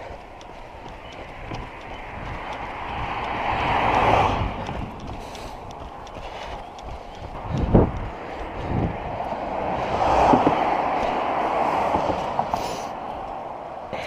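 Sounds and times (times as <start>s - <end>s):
car passing by: 1.0s - 6.0s, 7.3s - 14.0s.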